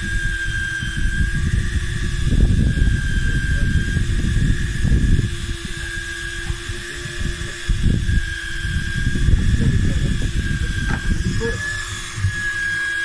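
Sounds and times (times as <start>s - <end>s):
high-pitched whine: 0.0s - 13.0s
wind buffeting microphone: 0.0s - 13.0s.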